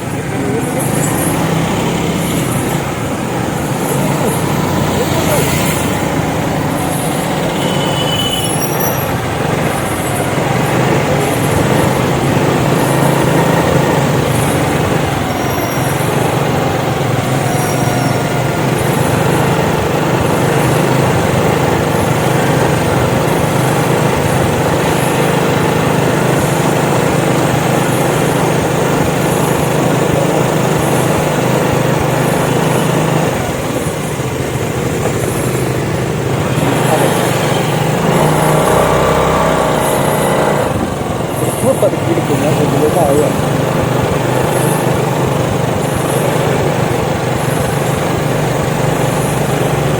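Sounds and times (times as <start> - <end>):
road noise: 0.0 - 49.9
vehicle engine hum: 0.0 - 49.9.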